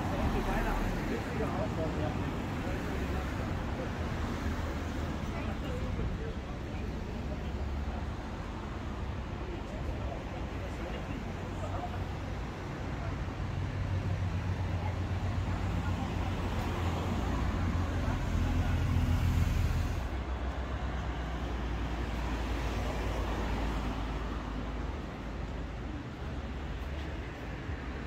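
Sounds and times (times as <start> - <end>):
street noise: 0.0 - 28.0.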